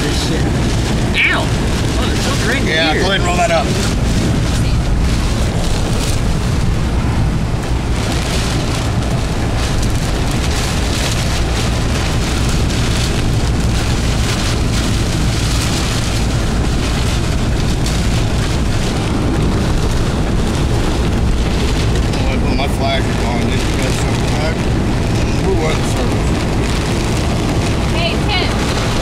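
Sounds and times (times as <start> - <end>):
gusty wind: 0.0 - 29.0
rain: 0.0 - 29.0
road and engine rumble: 0.0 - 29.0.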